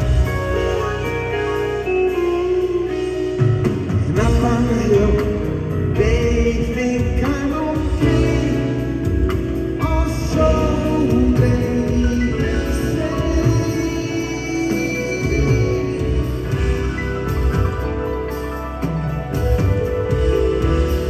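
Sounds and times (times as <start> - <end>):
live band playing: 0.0 - 21.0.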